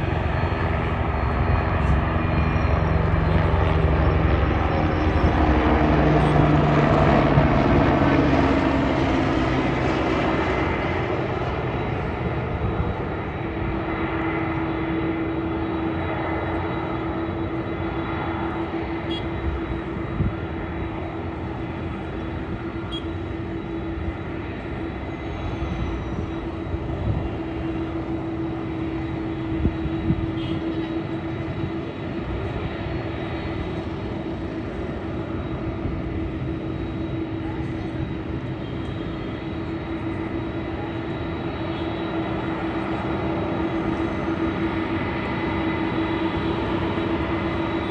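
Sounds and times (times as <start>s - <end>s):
airplane engines passing: 0.0s - 47.9s.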